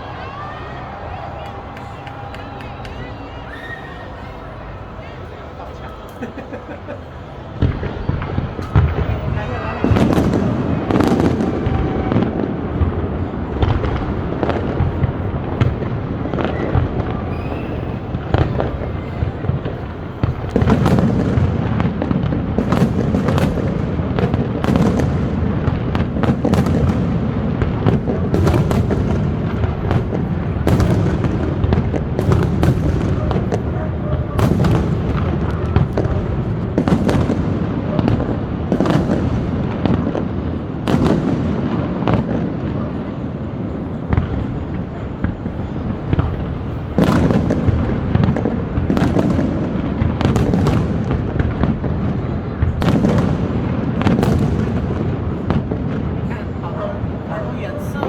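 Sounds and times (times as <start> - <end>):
fireworks booms and bangs: 0.0 - 58.0.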